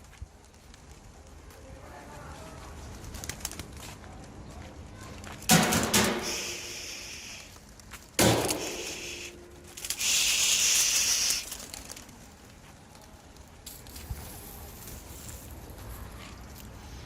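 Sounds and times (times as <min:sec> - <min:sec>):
pigeon wings flapping: 0:00.0 - 0:04.4, 0:05.1 - 0:15.4.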